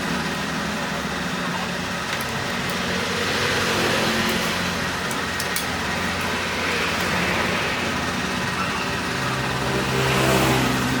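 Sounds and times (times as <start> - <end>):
engine hum: 0.0 - 11.0
traffic noise: 0.0 - 11.0.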